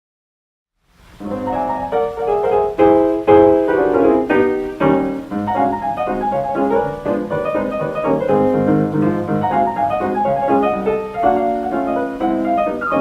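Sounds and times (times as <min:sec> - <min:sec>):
record surface crackle: 0:00.9 - 0:13.0
stride piano playing: 0:01.1 - 0:13.0.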